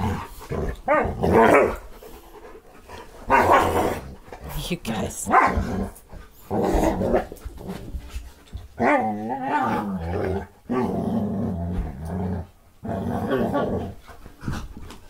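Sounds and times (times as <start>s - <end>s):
dogs growling while play-fighting: 0.0s - 4.5s, 5.4s - 15.0s.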